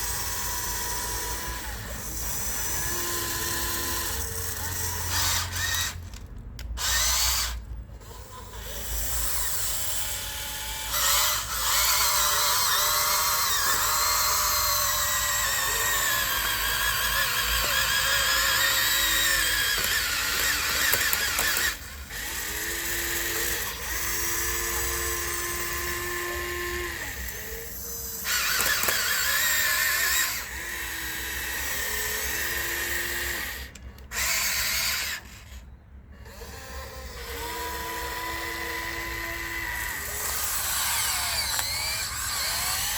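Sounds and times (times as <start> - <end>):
small electric motors whirring: 0.0 - 42.9.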